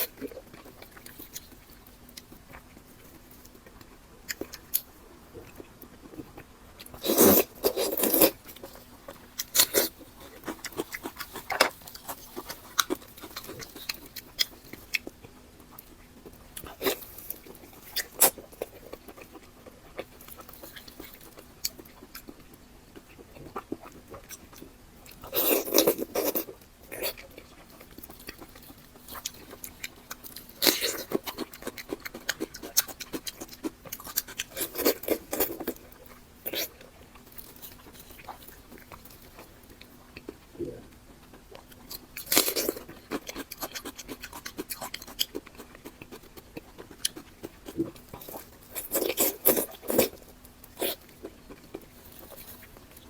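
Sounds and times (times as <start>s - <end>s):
chewing and mouth smacks: 0.0s - 53.0s.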